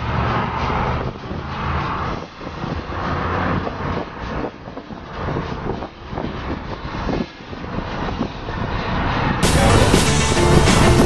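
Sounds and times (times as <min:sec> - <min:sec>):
vehicle engine and road noise: 0:00.0 - 0:11.0
wind buffeting microphone: 0:00.4 - 0:09.4.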